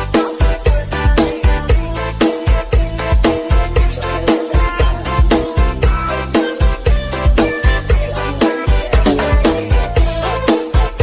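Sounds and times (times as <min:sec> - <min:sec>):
dance music with heavy bass beat: 0:00.0 - 0:11.0.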